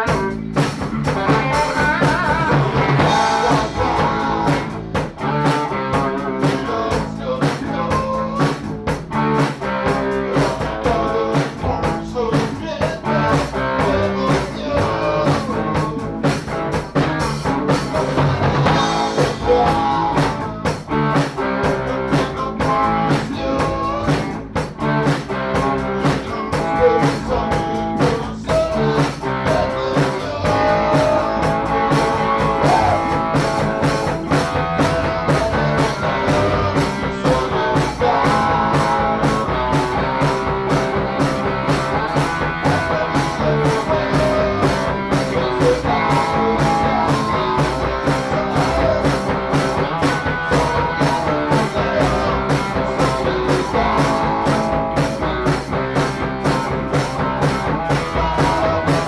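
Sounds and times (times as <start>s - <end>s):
drum kit playing: 0.0s - 59.0s
rock music: 0.0s - 59.0s.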